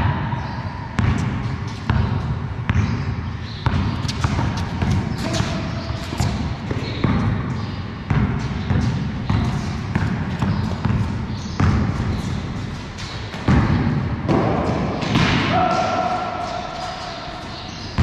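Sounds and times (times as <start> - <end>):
basketball bouncing on concrete: 0.0 - 16.0.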